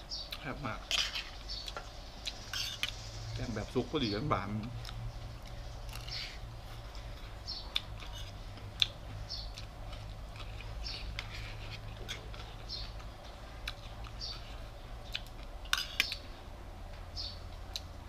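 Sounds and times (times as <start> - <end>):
wet chewing sounds: 0.2 - 3.1, 4.6 - 16.4.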